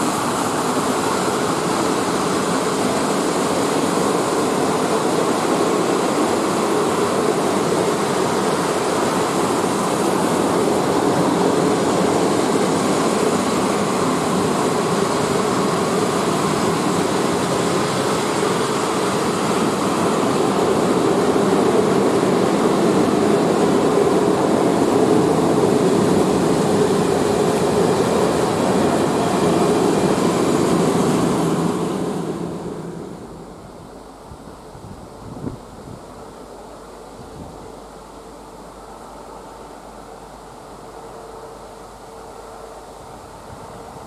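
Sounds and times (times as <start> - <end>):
freight train wheels rolling on rails: 0.0 - 44.0.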